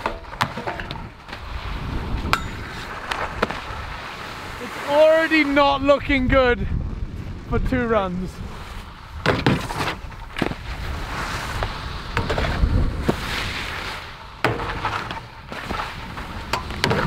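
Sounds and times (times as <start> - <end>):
skis scraping along rails: 0.0 - 6.2, 6.9 - 17.0.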